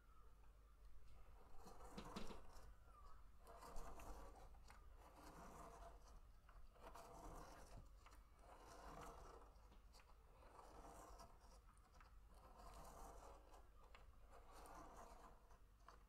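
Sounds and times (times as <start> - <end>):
felt-tip pen scratching paper: 1.4 - 2.7, 3.4 - 16.0.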